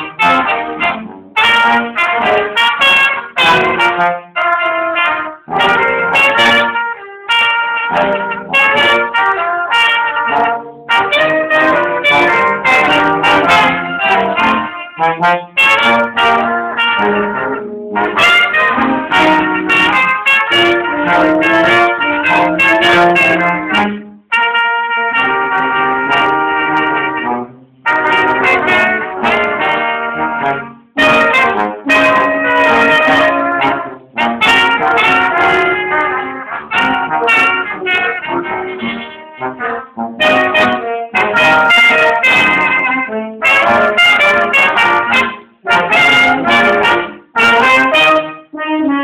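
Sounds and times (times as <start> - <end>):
brass ensemble playing: 0.0 - 49.0.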